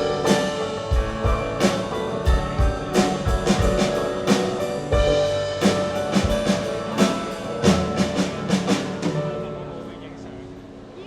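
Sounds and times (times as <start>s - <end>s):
live band playing: 0.0s - 9.8s.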